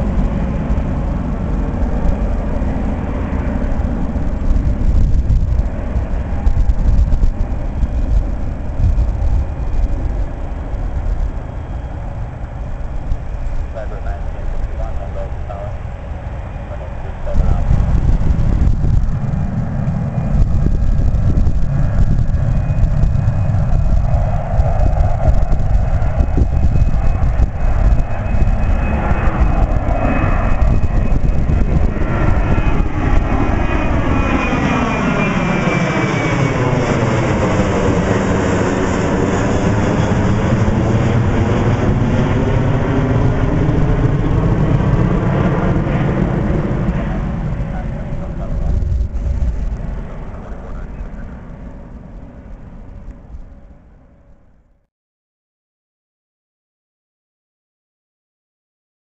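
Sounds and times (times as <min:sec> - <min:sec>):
jet engines rumbling: 0:00.0 - 0:54.8.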